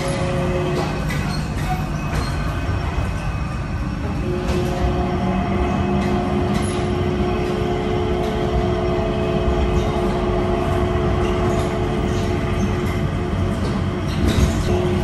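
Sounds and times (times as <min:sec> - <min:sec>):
train rolling hum: 0:00.0 - 0:15.0.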